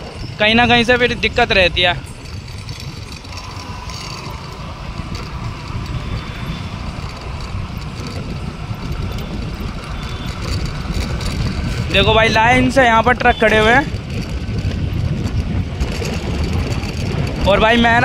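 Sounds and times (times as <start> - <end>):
scooter rumble: 0.0 - 18.0
wind buffeting microphone: 0.0 - 18.0.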